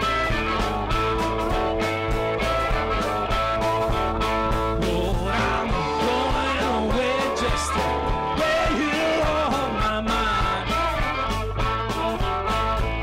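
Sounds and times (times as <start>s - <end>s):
blues-rock band playing: 0.0s - 13.0s.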